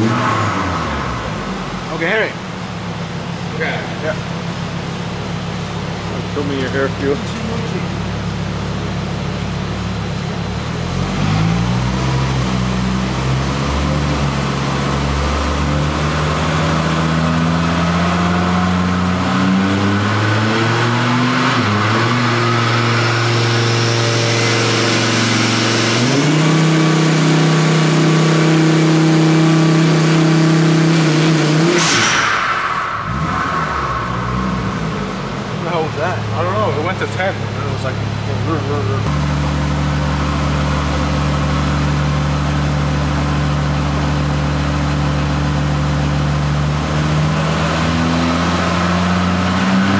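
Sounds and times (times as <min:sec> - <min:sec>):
turbocharged car engine pulling: 0:00.0 - 0:49.9.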